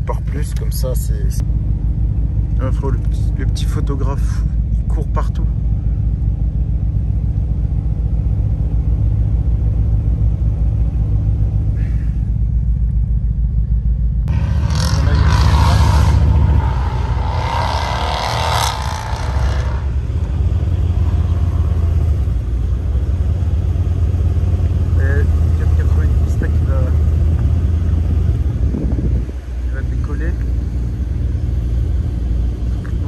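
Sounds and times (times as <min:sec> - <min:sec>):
car engine low rumble: 0:00.0 - 0:33.0
sports car engines revving: 0:00.0 - 0:33.0.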